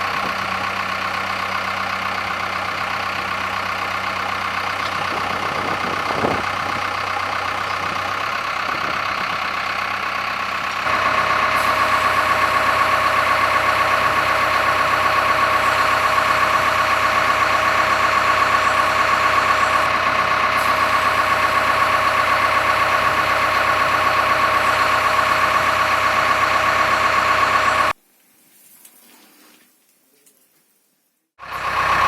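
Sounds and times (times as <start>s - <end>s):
diesel engine running: 0.0s - 28.0s, 31.4s - 32.0s.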